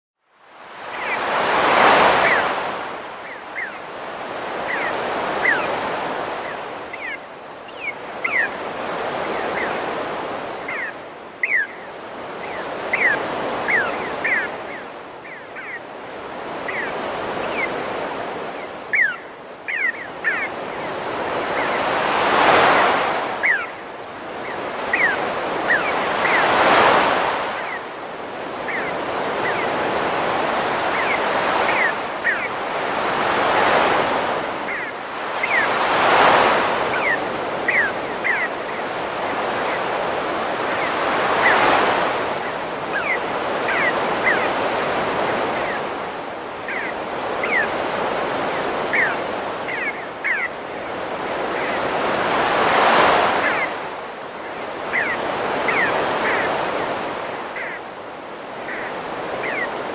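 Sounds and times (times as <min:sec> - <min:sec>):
synthesized ocean surf: 0:00.4 - 0:59.9.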